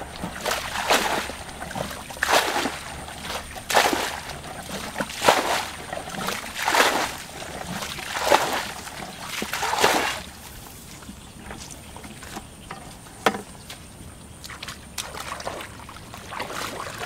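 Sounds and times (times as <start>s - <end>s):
water splashing from a bucket: 0.0s - 17.0s.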